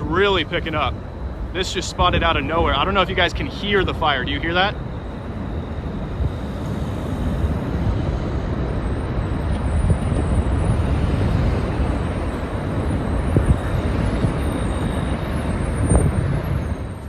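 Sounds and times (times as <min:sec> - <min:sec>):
strong wind: 0:00.0 - 0:17.0
wildfire roaring: 0:00.0 - 0:17.0.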